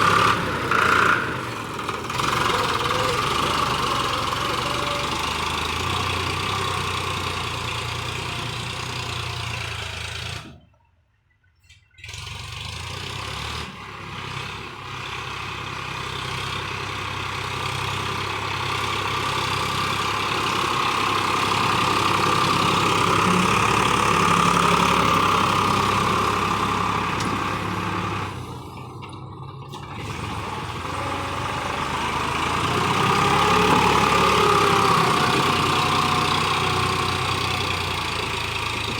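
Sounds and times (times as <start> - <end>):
tractor diesel engine running: 0.0 - 10.7, 12.3 - 38.9.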